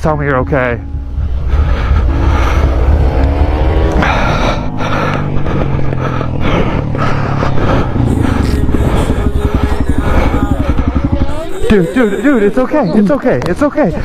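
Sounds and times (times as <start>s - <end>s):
vehicle engine rising in pitch: 0.0s - 13.4s
low road rumble: 0.0s - 14.0s.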